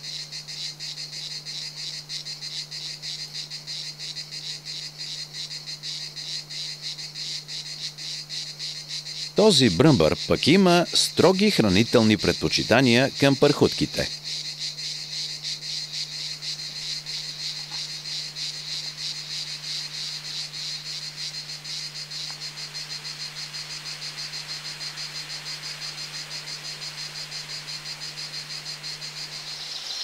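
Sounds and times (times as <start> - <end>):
insect chirring trill: 0.0 - 30.0.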